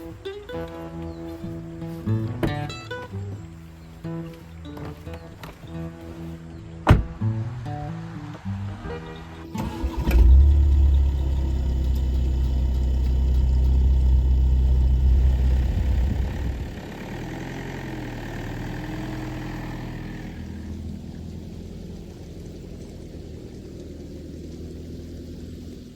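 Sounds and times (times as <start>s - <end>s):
van engine idling: 0.0s - 25.9s.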